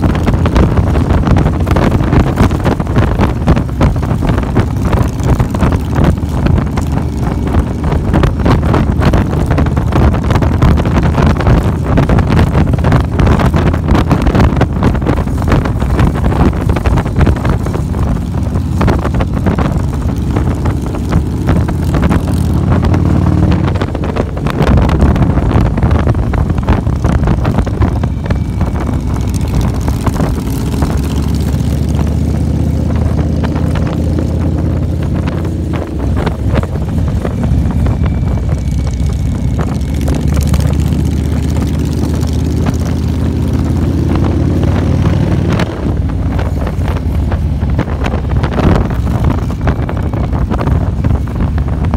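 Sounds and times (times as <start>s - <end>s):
motorcycle engine running: 0.0s - 51.9s
wind buffeting microphone: 0.0s - 51.9s.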